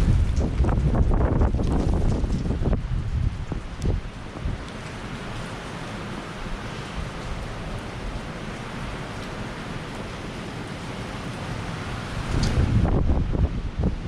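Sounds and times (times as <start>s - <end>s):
heavy rain and wind: 0.0s - 14.0s.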